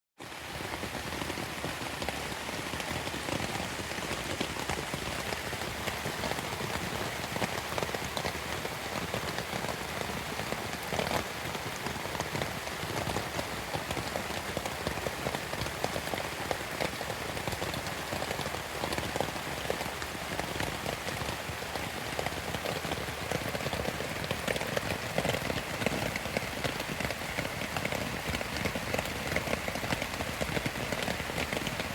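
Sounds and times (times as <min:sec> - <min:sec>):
heavy rain on a tent: 0:00.2 - 0:31.9.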